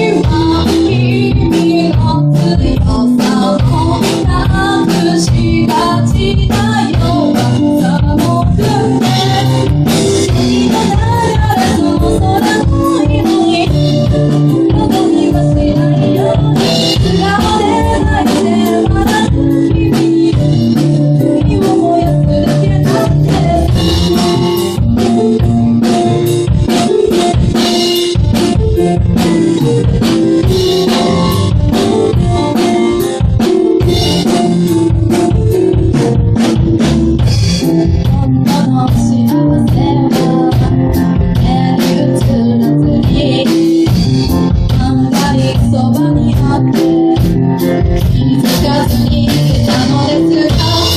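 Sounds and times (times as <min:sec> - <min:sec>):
band playing a song: 0:00.0 - 0:50.9
drum-kit beat: 0:00.0 - 0:50.9.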